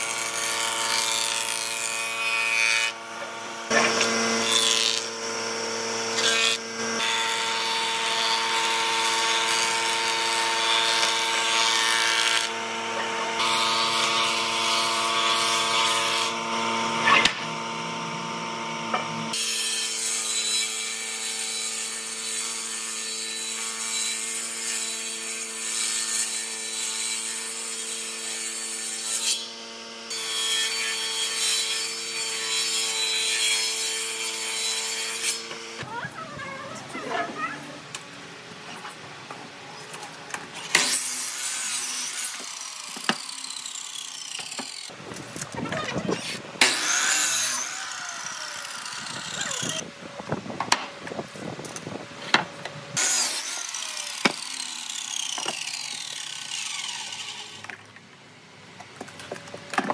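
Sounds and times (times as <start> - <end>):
power woodworking tool cutting wood: 0.0 - 36.0, 38.5 - 49.9, 51.7 - 57.9.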